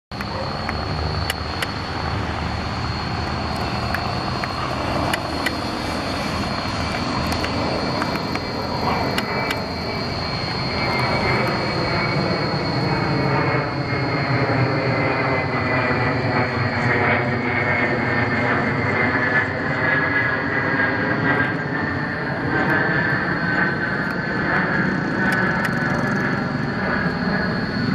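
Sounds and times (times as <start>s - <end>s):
jet aircraft passing overhead: 0.1s - 27.9s.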